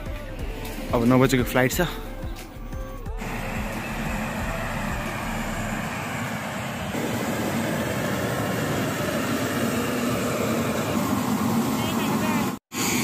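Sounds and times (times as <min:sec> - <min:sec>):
aircraft rushing and humming: 0:00.0 - 0:13.0.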